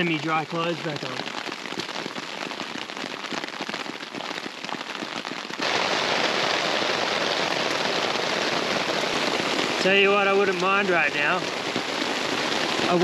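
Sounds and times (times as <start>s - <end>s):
rain pattering on tarp: 0.0s - 13.0s
steady heavy rain hiss: 0.0s - 13.0s.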